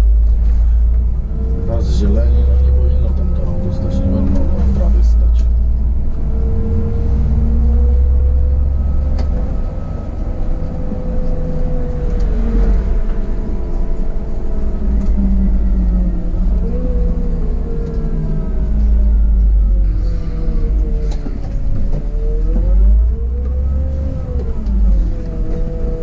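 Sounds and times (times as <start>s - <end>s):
bus engine rumbling with whine: 0.0s - 26.0s.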